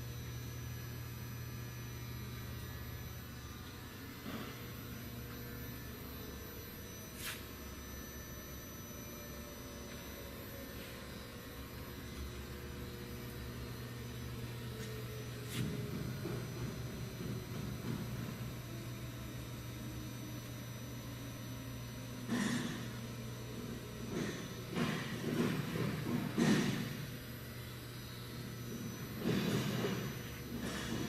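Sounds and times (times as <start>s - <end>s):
low machinery hum: 0.0s - 31.0s.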